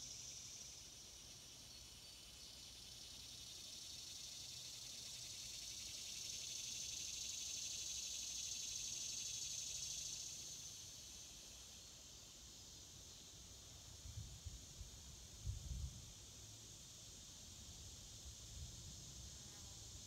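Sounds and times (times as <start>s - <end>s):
high-pitched insect chorus trilling: 0.0s - 20.0s.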